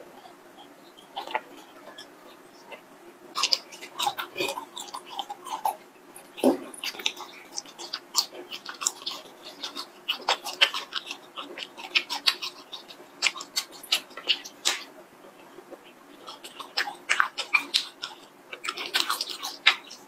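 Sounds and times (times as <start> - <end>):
biting and chewing: 0.0 - 20.0
lip and teeth smacks: 0.2 - 20.0.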